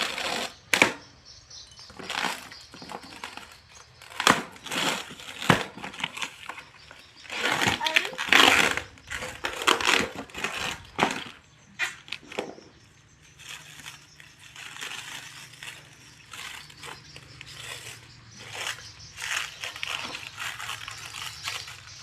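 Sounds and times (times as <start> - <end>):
packaging crinkling and rustling: 1.8 - 22.0.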